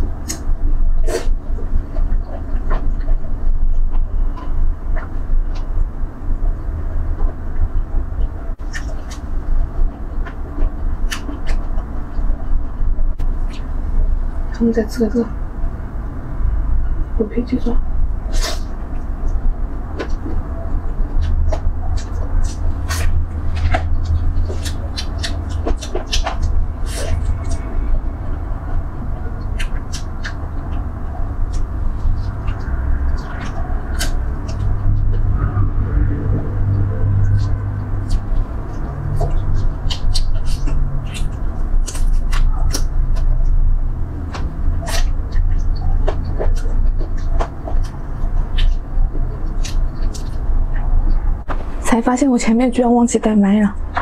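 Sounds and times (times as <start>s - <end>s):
steady low hum: 0.0s - 54.0s
steady low rumble: 0.0s - 54.0s
wet chewing and lip-smacking: 0.1s - 14.6s, 18.2s - 51.4s.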